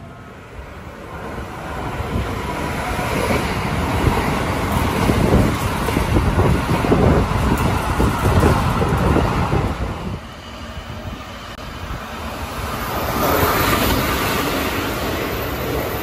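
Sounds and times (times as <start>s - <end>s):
train rumbling past: 0.0s - 16.0s
train wheel and rail noise: 0.0s - 16.0s.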